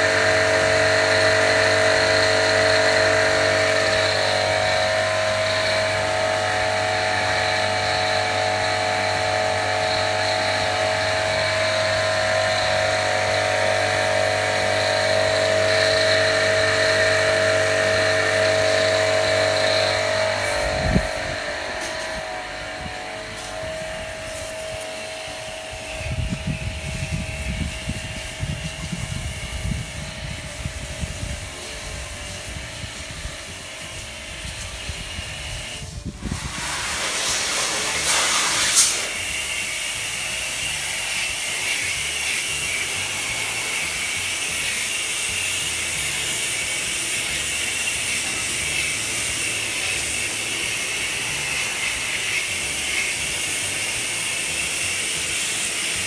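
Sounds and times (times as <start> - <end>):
hissing water spray: 0.0 - 56.0.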